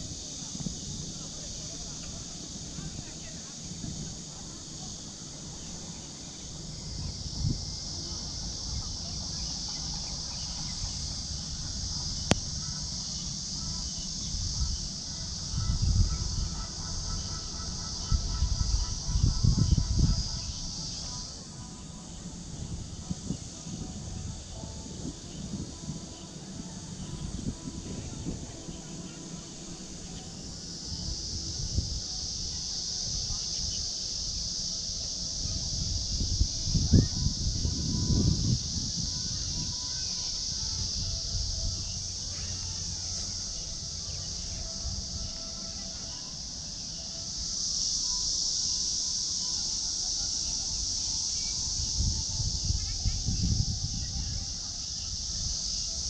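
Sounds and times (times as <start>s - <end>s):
low irregular rumbling: 0.0s - 47.9s
insect chorus droning: 0.0s - 56.0s.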